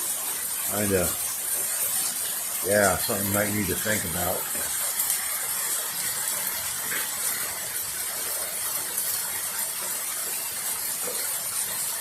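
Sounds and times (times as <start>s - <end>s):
heavy rain: 0.0s - 12.0s
water running and gushing: 0.0s - 12.0s.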